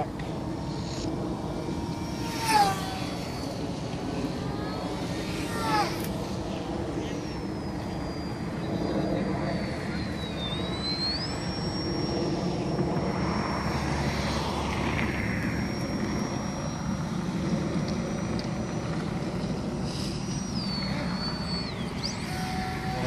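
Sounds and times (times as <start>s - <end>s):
model plane motor whine: 0.0s - 23.0s.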